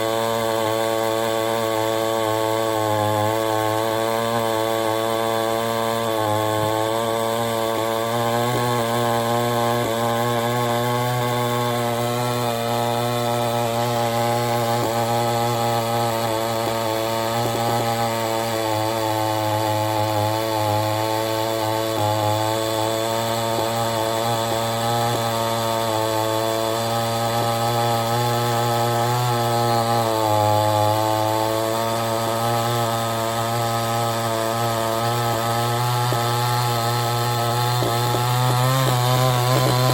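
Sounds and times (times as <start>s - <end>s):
chainsaw sawing through log: 0.0s - 39.9s.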